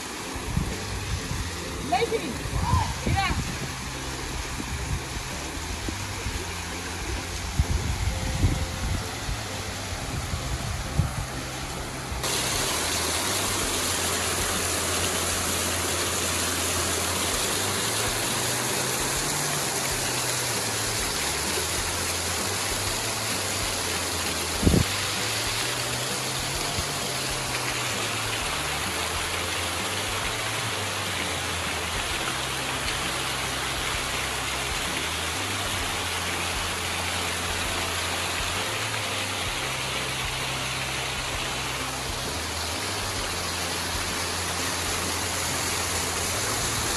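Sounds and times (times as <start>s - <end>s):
waterfall rushing over rocks: 0.0s - 46.9s.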